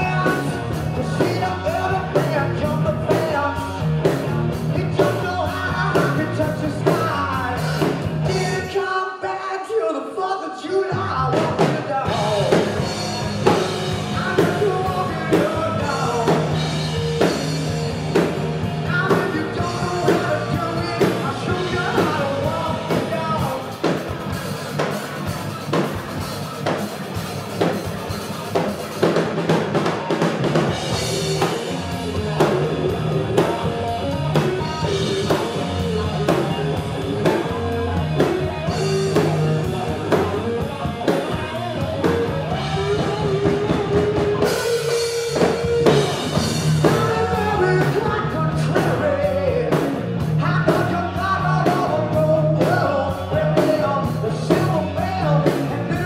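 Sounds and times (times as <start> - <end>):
live rock band playing: 0.0 - 9.1, 10.7 - 56.0.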